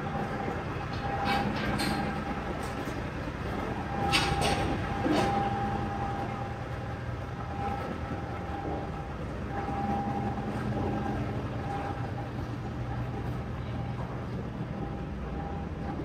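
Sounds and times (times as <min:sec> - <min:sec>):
ferry engine rumble: 0:00.0 - 0:16.0.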